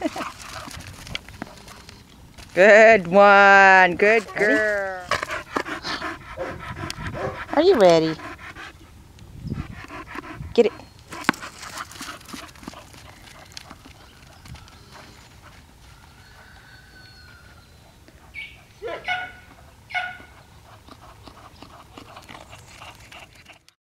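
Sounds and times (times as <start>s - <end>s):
dog paws patting on dirt: 0.0s - 8.6s, 9.9s - 23.8s.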